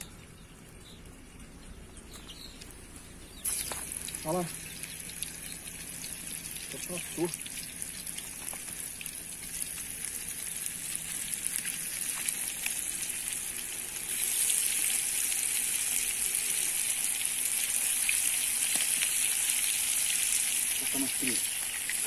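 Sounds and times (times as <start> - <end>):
fish sizzling in hot oil: 3.4 - 22.0.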